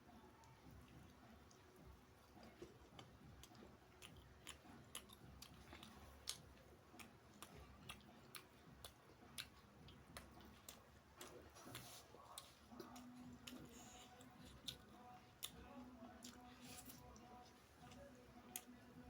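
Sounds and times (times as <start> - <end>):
wet chewing mouth sounds: 0.4 - 19.0.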